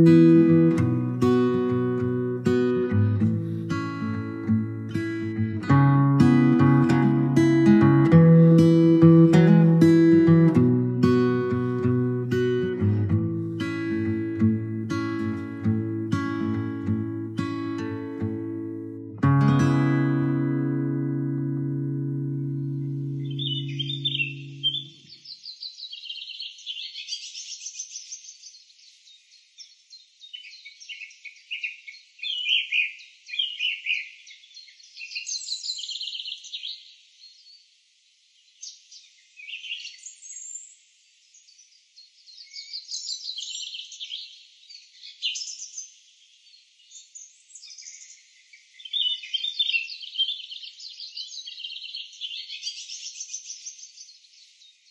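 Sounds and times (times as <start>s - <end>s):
birds singing trills and chirps: 0.0s - 18.2s, 20.5s - 54.9s.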